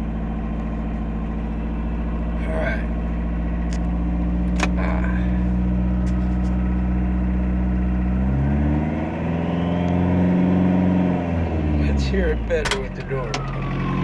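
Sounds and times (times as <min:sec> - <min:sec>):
diesel engine idling and revving: 0:00.0 - 0:14.0.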